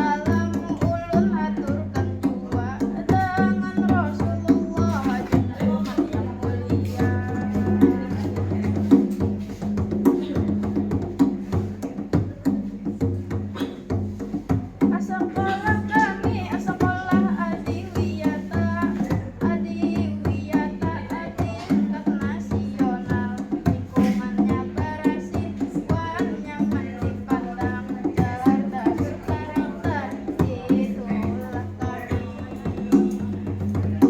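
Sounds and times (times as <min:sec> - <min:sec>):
drums and hand percussion: 0:00.0 - 0:34.0.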